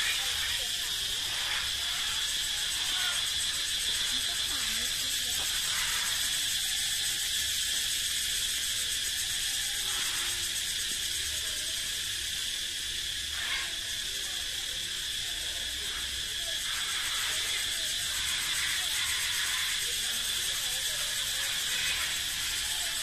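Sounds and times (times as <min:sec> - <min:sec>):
cicadas buzzing: 0:00.0 - 0:23.0.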